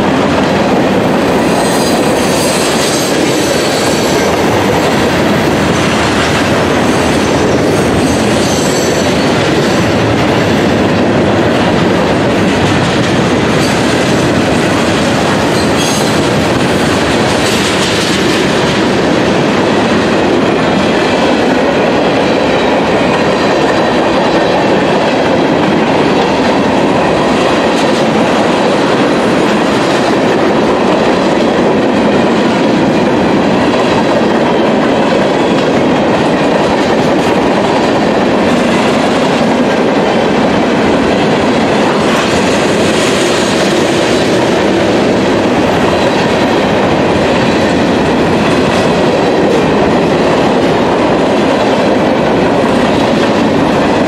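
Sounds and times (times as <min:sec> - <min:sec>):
train wheels rolling on rail: 0:00.0 - 0:54.0.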